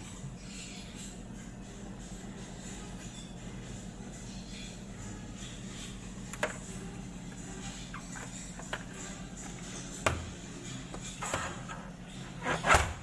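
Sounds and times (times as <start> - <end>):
steady low hum: 0.0 - 13.0
background music: 1.1 - 13.0.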